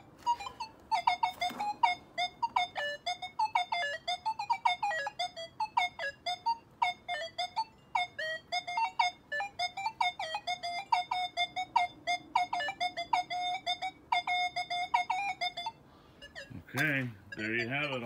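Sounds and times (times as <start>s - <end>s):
metal detector beeping: 0.0s - 18.0s.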